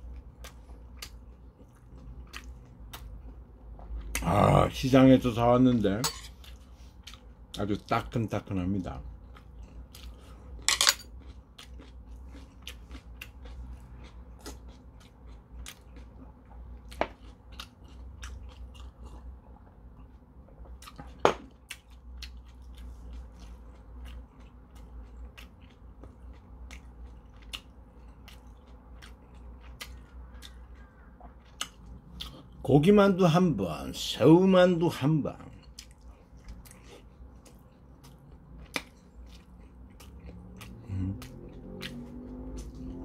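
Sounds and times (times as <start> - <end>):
person chewing food: 0.0 - 4.7, 5.6 - 7.9, 8.8 - 32.7, 35.3 - 43.0.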